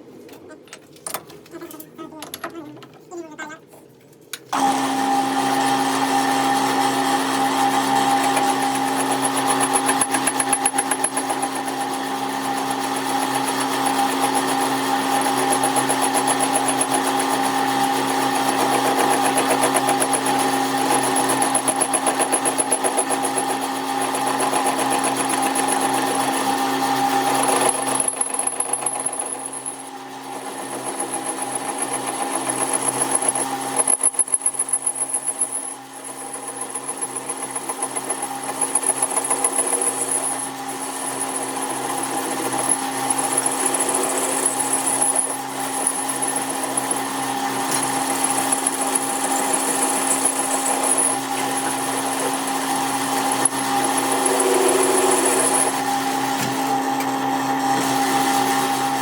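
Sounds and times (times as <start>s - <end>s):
workshop machine humming: 0.0s - 28.0s, 37.0s - 59.0s.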